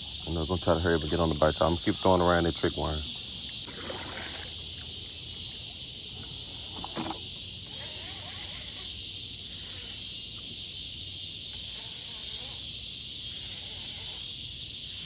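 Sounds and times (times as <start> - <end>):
crickets and insects chirping: 0.0 - 15.0.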